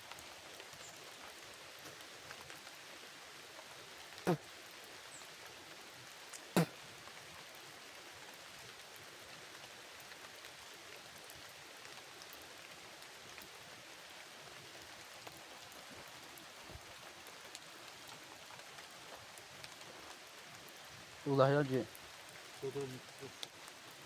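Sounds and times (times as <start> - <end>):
light rain on foliage: 0.0 - 24.0.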